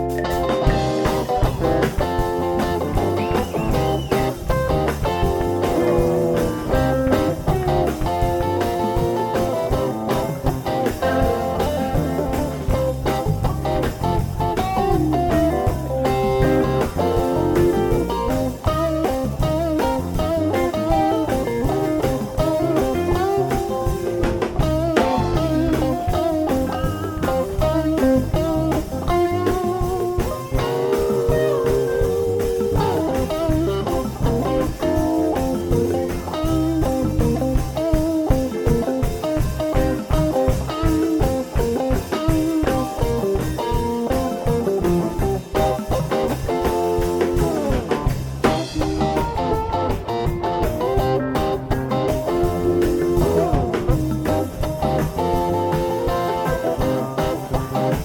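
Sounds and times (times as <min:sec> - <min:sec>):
bass guitar: 0:00.0 - 0:58.0
drum kit beat: 0:00.0 - 0:58.0
electric guitars: 0:00.0 - 0:58.0.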